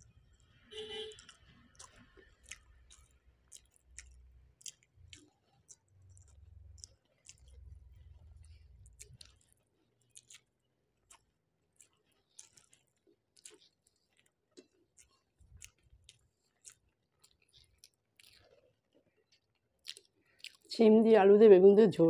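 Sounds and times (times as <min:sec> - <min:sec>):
faint chewing and mouth clicks: 0:00.0 - 0:20.8.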